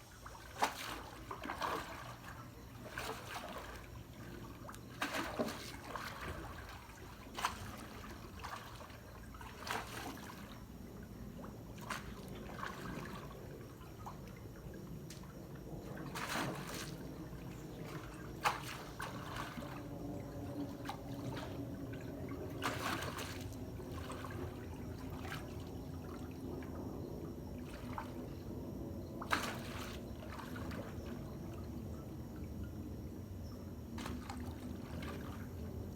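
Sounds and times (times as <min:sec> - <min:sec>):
water splashes: 0:00.0 - 0:28.5, 0:29.2 - 0:32.5, 0:33.9 - 0:35.9
pool water sloshing and lapping: 0:00.0 - 0:35.9.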